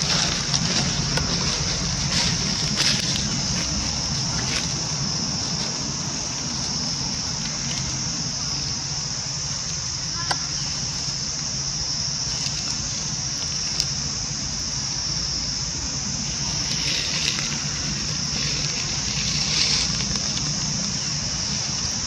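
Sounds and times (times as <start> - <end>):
dry leaves rustling: 0.0 - 22.0
insect chorus drone: 0.0 - 22.0
low steady hum: 0.0 - 22.0.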